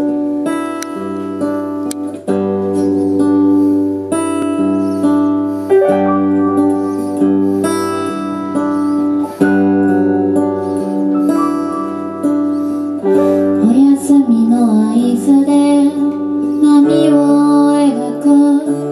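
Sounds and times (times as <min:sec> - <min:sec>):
acoustic guitar: 0:00.0 - 0:18.9
piano chords: 0:00.0 - 0:18.9.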